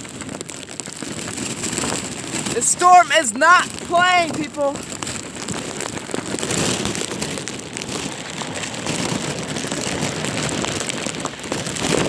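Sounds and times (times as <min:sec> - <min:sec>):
heavy rain pouring: 0:01.0 - 0:12.0.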